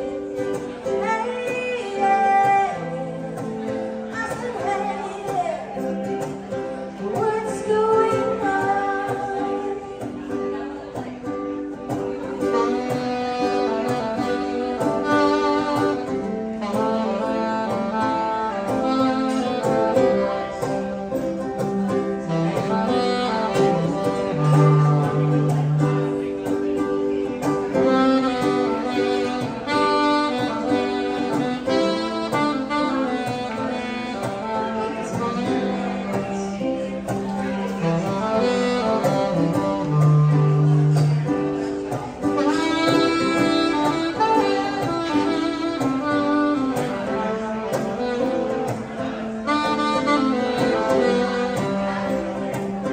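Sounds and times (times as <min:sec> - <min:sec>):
saxophone melody: 0:00.0 - 0:52.9
strummed acoustic guitar: 0:00.0 - 0:52.9.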